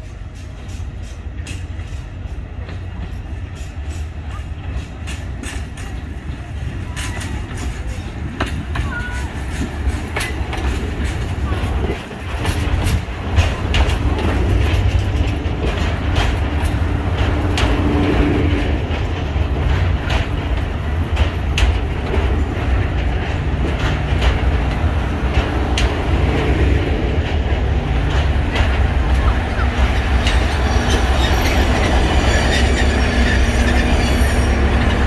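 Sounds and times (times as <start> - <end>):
diesel locomotive engine rumble: 0.0 - 35.0
train wheels clicking on track: 0.0 - 35.0.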